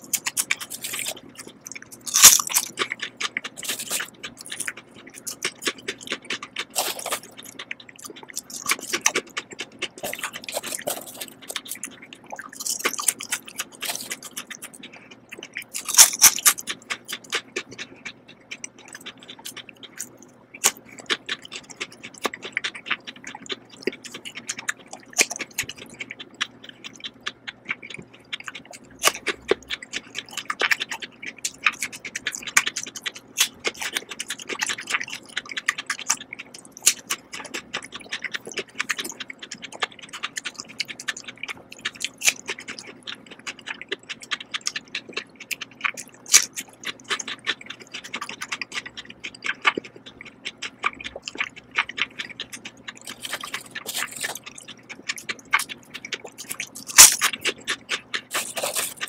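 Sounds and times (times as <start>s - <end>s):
person chewing crisp food: 0.0s - 59.0s.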